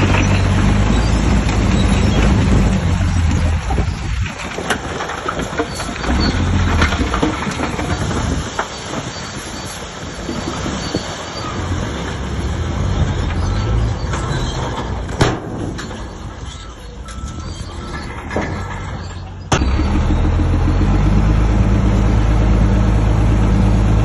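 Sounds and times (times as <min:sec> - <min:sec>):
steel tracks clanking and squealing: 0:00.0 - 0:12.2, 0:12.8 - 0:21.0
bulldozer diesel engine rumbling: 0:00.0 - 0:24.0.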